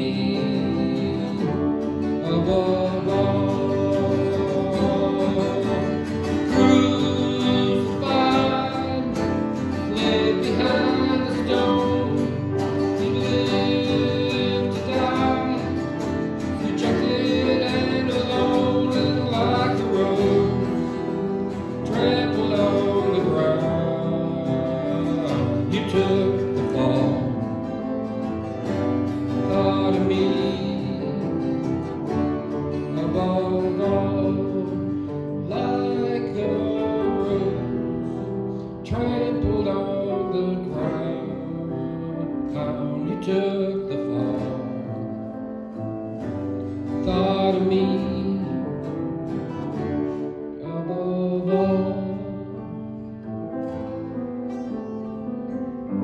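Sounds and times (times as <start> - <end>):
acoustic guitar: 0.0 - 56.0
man singing: 0.0 - 56.0.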